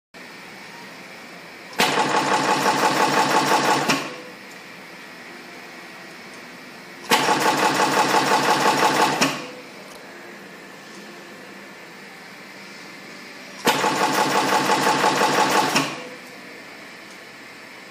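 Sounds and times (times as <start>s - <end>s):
steady machine hum: 0.2s - 17.9s.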